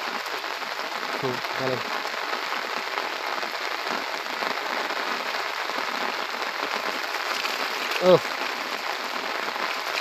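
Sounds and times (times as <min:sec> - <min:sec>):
heavy rain on vegetation: 0:00.0 - 0:10.0.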